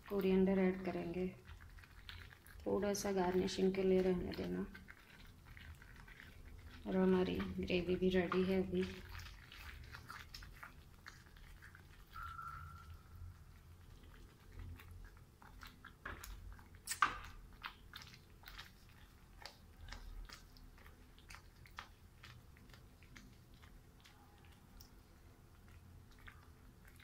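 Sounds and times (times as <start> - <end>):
spatula stirring thick gravy: 0.0 - 27.0.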